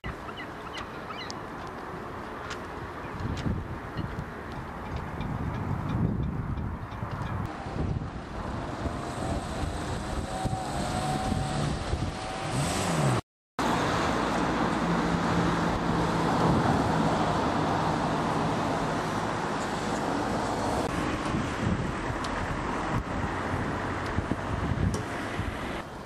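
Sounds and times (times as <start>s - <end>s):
cars passing on street: 0.0s - 26.0s.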